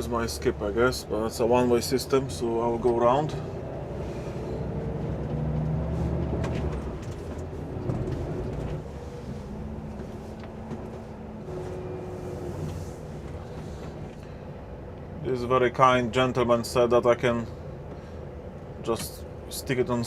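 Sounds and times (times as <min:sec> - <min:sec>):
truck diesel engine running: 0:00.0 - 0:19.6.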